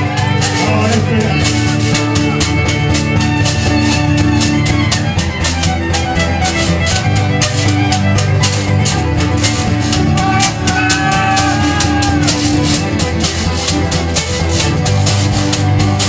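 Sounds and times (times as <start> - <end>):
bass: 0.0 - 16.0
bowed string melody: 0.0 - 16.0
guitar: 0.0 - 16.0
quick percussion beat: 0.0 - 16.0.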